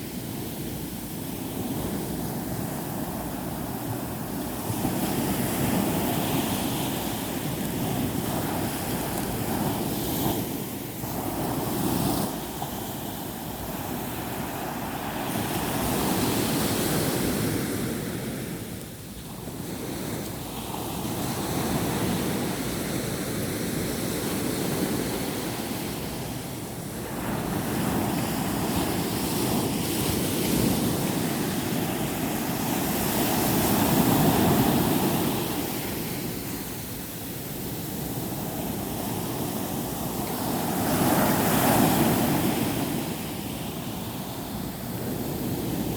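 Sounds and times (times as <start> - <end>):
sea waves breaking on beach: 0.0 - 45.9.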